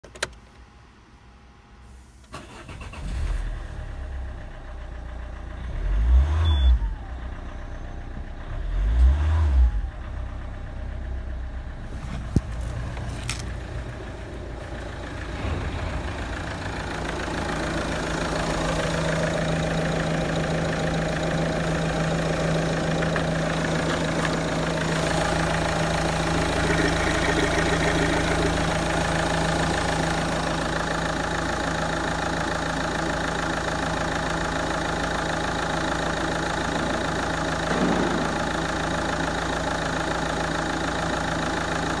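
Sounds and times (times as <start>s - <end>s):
diesel engine idling: 0.9s - 42.0s
diesel engine starting and revving: 2.0s - 42.0s.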